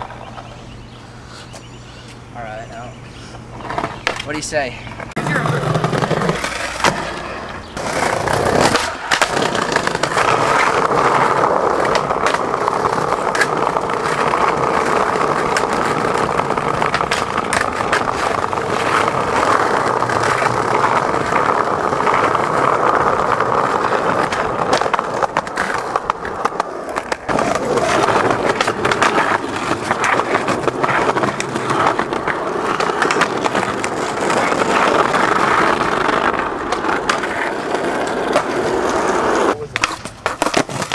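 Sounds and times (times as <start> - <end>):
skateboard wheels rolling on pavement: 0.0 - 40.9
skateboard clicks and knocks: 3.6 - 4.4, 5.0 - 40.9.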